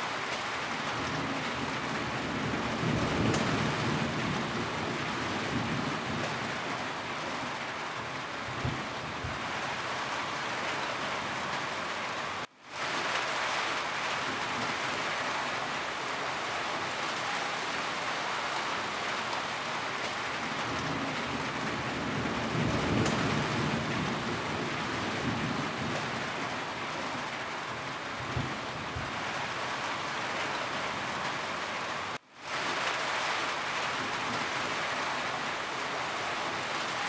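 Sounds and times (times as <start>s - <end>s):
rain falling on a roof: 0.0s - 37.0s.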